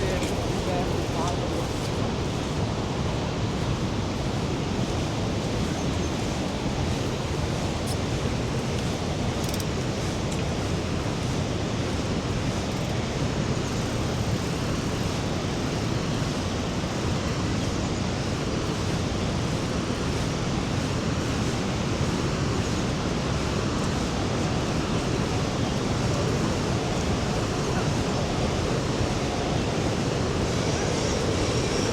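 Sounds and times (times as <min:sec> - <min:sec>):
waterfall roaring: 0:00.0 - 0:31.9.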